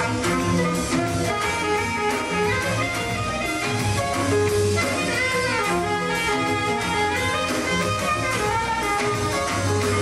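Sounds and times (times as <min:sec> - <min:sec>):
drums: 0:00.0 - 0:10.0
saxophone lead: 0:00.0 - 0:10.0.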